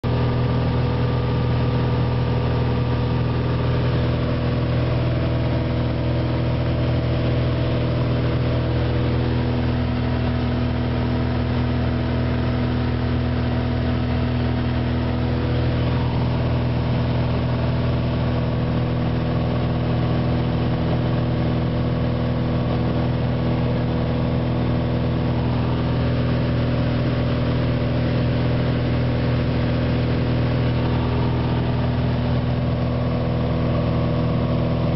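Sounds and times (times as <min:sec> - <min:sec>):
aircraft engine drone in cabin: 0:00.0 - 0:34.9.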